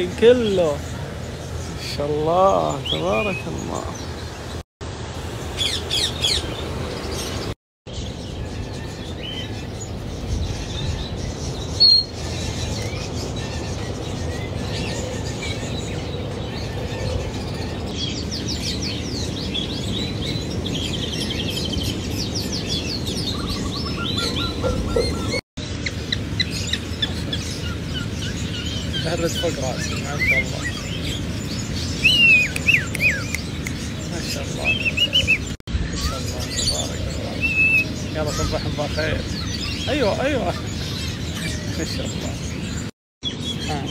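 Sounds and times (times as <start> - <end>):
small birds chirping: 0.0 - 4.6, 5.2 - 43.9.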